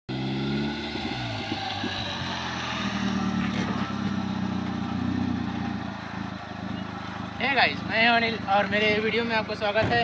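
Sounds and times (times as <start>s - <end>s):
tyres on dirt ground: 0.1s - 10.0s
car engine running: 0.2s - 10.0s.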